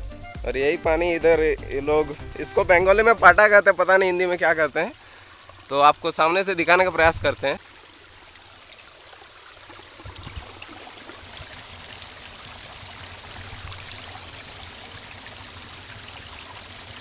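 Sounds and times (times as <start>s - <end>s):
water rushing through channel: 2.0s - 17.0s.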